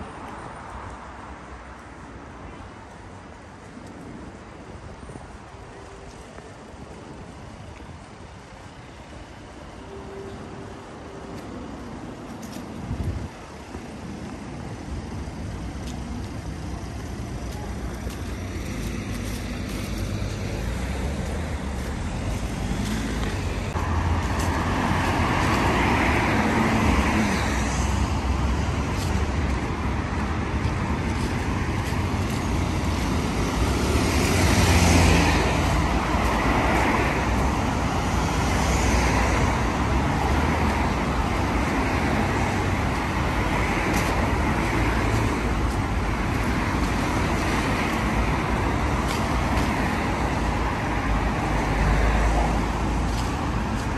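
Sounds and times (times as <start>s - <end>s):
traffic passing: 0.0s - 53.9s.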